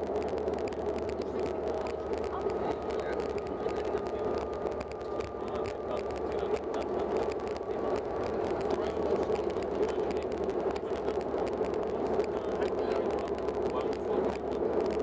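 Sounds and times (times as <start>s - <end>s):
low rumble: 0.0s - 15.0s
propeller engine drone: 0.0s - 15.0s.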